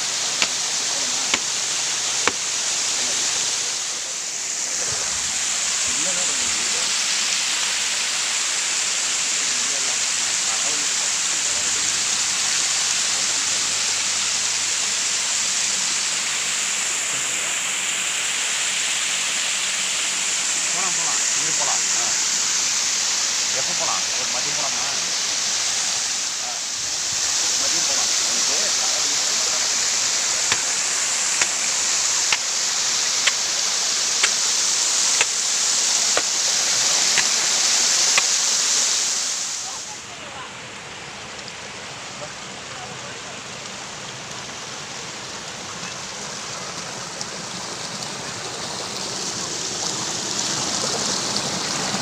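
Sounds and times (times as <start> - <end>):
water rushing: 0.0 - 52.0.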